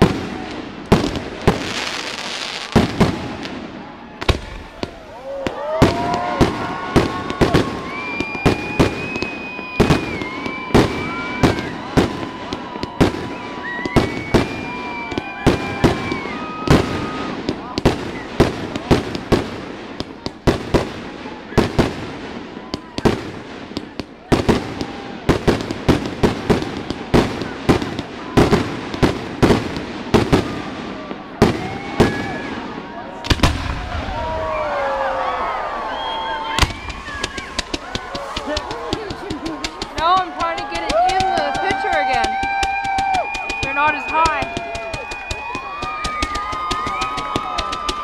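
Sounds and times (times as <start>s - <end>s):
fireworks bangs: 0.0s - 48.0s
whistling fireworks: 0.0s - 48.0s.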